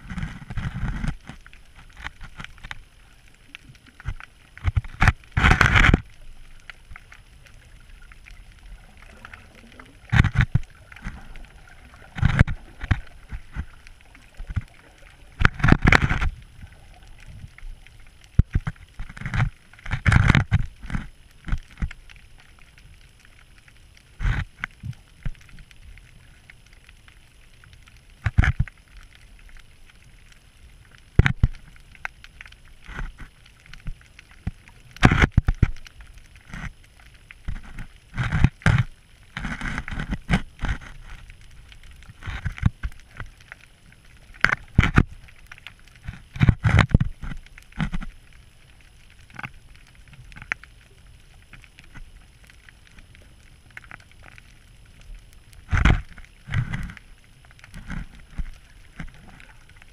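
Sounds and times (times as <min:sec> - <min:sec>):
faint steady hiss: 0:00.0 - 0:59.9
water sloshing and gurgling: 0:00.0 - 0:59.9.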